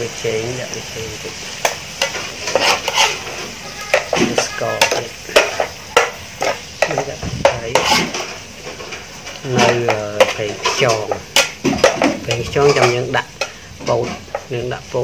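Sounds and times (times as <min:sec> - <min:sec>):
meat sizzling in oil: 0:00.0 - 0:15.0
spatula scraping a pan: 0:00.8 - 0:14.9.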